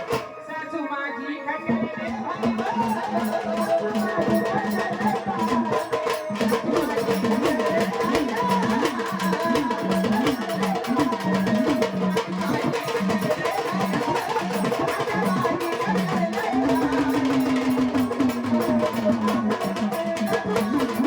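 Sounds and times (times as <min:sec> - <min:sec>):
drum and percussion: 0:00.0 - 0:00.8, 0:01.6 - 0:21.0.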